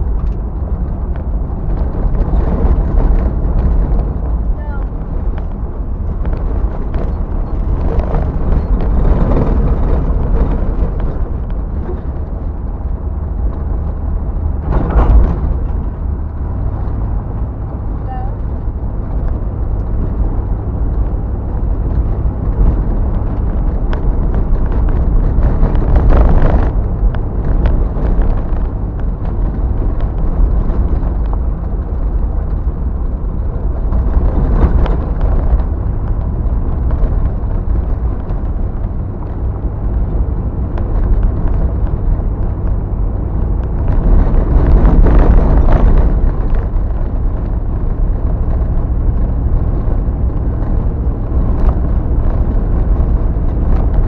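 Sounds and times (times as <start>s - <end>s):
car driving on gravel: 0.0s - 54.0s.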